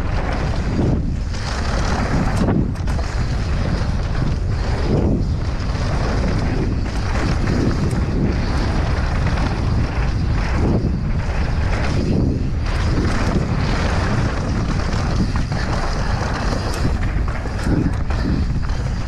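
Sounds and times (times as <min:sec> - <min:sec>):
bike clattering over bumps: 0:00.0 - 0:19.0
bike tyres rumbling over ground: 0:00.0 - 0:19.0
wind rushing over microphone: 0:00.0 - 0:19.0.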